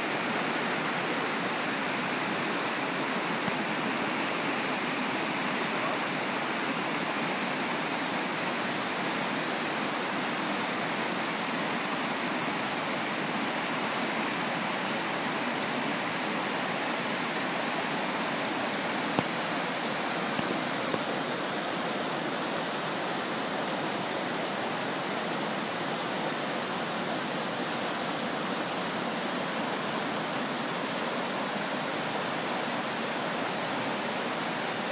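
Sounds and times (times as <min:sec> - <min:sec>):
stream rushing over stones: 0:00.0 - 0:34.9.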